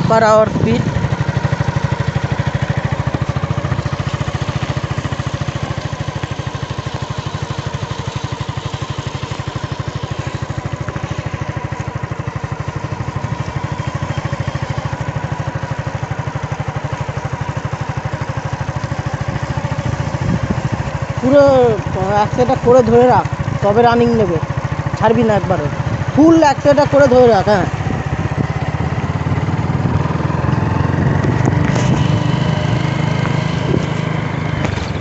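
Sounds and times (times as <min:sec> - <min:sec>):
motor running with whine: 0:00.0 - 0:35.0.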